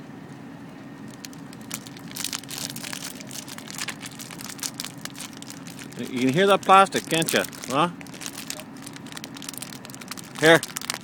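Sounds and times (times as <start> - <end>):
steady low hum: 0.0 - 11.0
plastic crinkling: 1.0 - 11.0.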